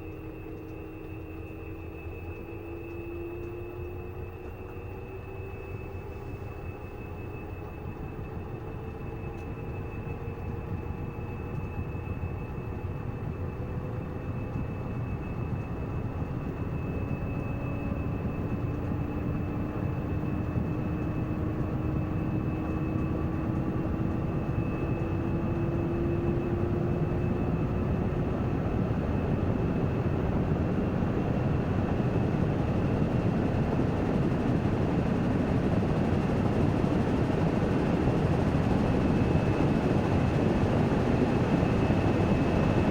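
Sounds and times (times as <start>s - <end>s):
faint motor whine: 0.0s - 42.9s.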